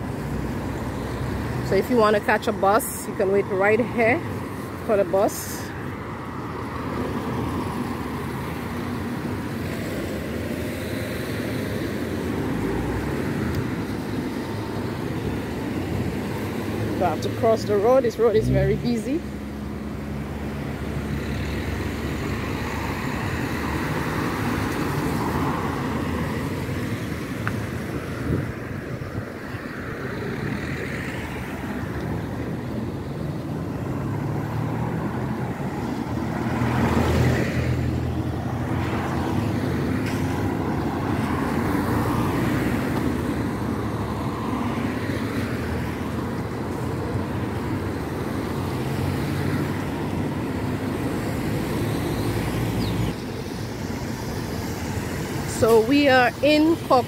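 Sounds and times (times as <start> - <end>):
road traffic driving past: 0.0 - 57.0.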